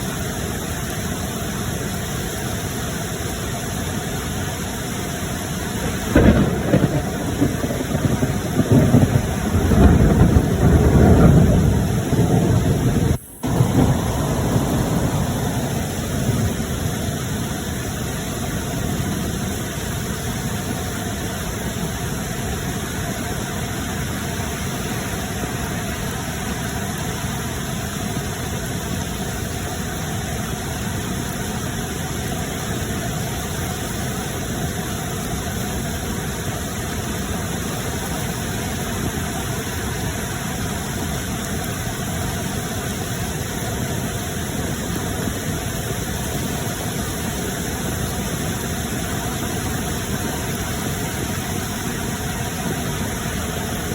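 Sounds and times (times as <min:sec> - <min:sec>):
rushing water roar: 0:00.0 - 0:53.9.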